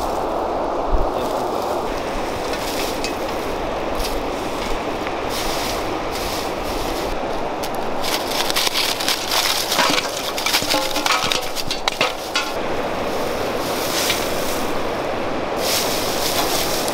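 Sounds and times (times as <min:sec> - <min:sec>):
dry straw rustling on metal buckets: 0:00.0 - 0:16.9
steady rushing noise: 0:00.0 - 0:16.9.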